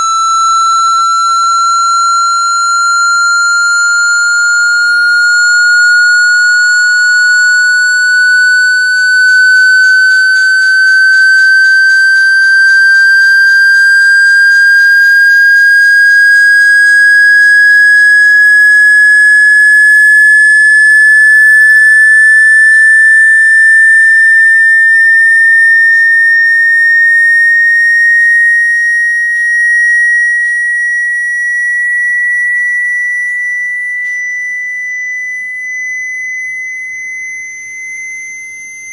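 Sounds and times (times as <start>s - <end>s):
sine tone gliding upward: 0.0s - 38.9s.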